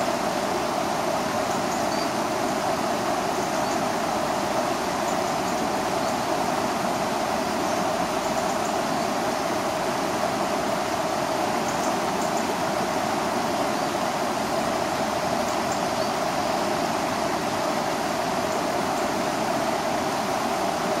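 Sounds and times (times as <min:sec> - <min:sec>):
river water rushing over weir: 0:00.0 - 0:21.0.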